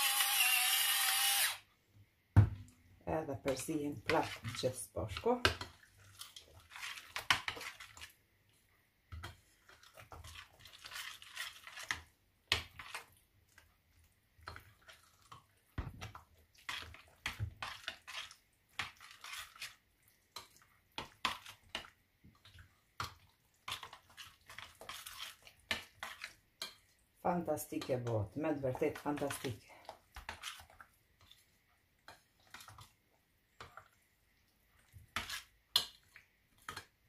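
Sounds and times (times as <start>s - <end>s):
spoon stirring thick yogurt: 2.5s - 37.0s.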